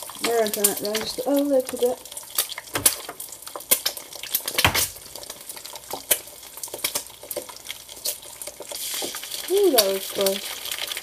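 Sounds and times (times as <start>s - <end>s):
hot oil crackling in a pan: 0.0s - 11.0s.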